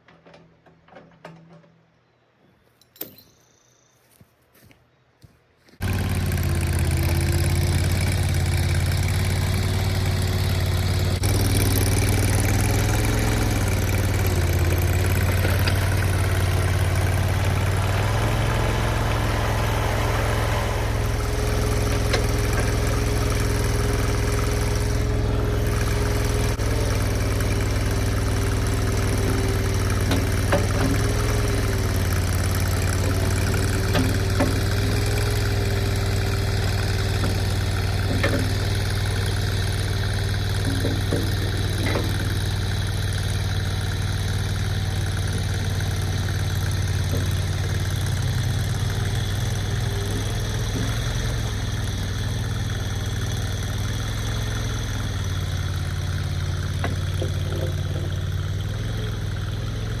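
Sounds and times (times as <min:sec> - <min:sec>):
skid steer engine running: 0:05.6 - 1:00.0.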